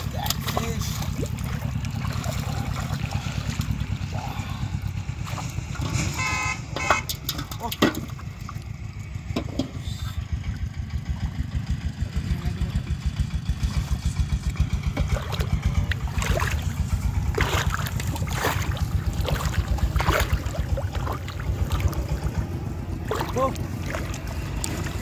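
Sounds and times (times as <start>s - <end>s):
water splashing: 0.0s - 11.9s, 13.6s - 25.0s
engine puttering: 0.0s - 25.0s.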